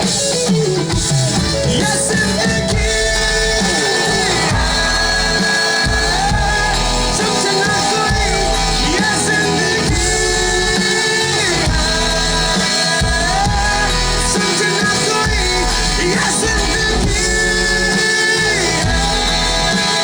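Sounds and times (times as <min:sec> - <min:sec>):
electric guitar bending notes: 0:00.0 - 0:20.0
rock band playing: 0:00.0 - 0:20.0
person singing: 0:01.6 - 0:20.0.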